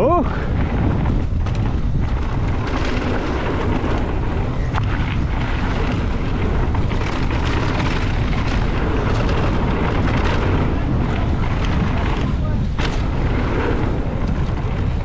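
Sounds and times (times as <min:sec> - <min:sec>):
tyres rolling on dirt: 0:00.0 - 0:15.0
wind buffeting microphone: 0:00.0 - 0:15.0.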